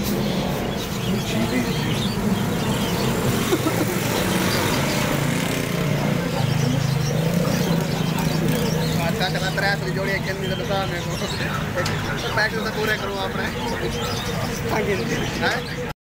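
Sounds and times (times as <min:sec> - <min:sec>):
engine humming: 0:00.0 - 0:15.9.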